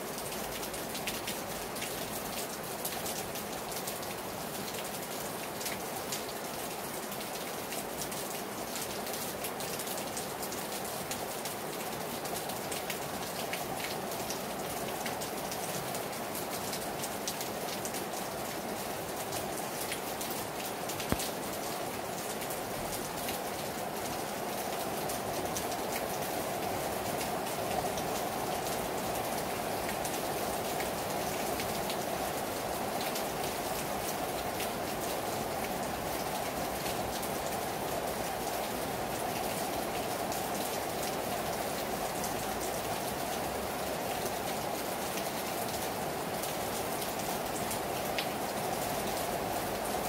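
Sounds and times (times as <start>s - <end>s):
heavy rain on a terrace: 0.0s - 50.0s.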